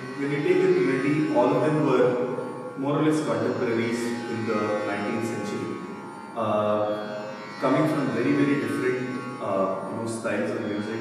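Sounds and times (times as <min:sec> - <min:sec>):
faint steady drone: 0:00.0 - 0:11.0.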